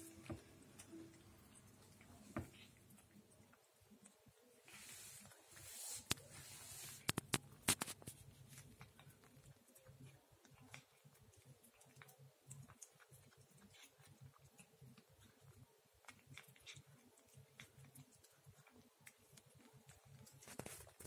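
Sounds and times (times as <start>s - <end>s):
cat chewing food: 0.0s - 21.0s.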